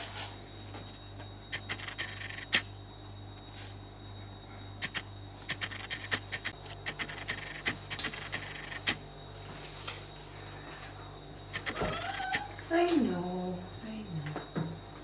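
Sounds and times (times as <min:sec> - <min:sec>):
fridge humming: 0:00.0 - 0:09.3, 0:10.3 - 0:15.0.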